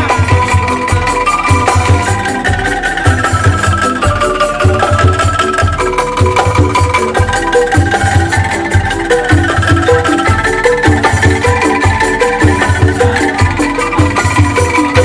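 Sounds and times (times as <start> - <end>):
bamboo xylophones playing melody: 0.0 - 15.0.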